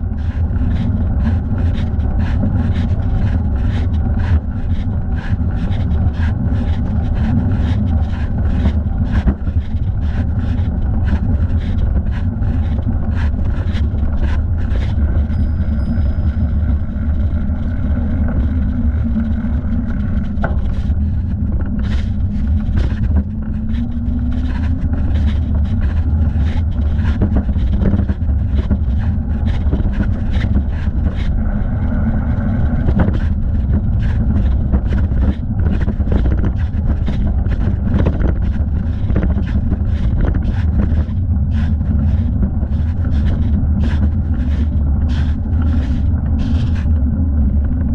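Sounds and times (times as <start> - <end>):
bicycle riding noise: 0.0 - 47.9
wind rumble: 0.0 - 47.9.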